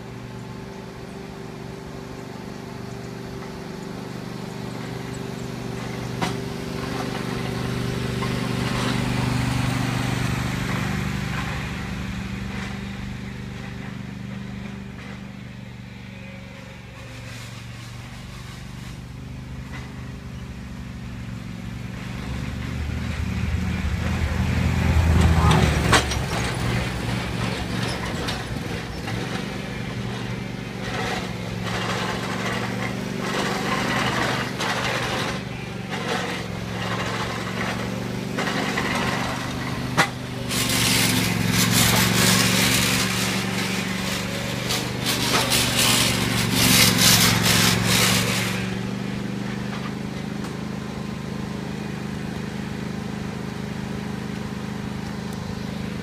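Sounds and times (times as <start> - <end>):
ride-on lawn mower engine: 0.0 - 56.0.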